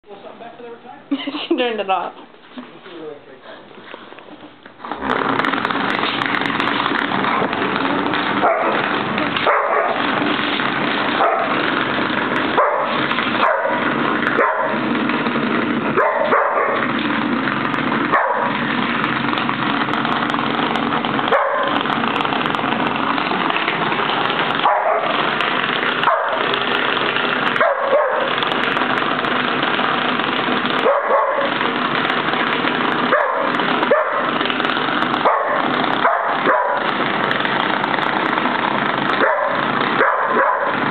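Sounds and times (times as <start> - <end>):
massager vibrating on wooden floor: 3.6 - 40.9.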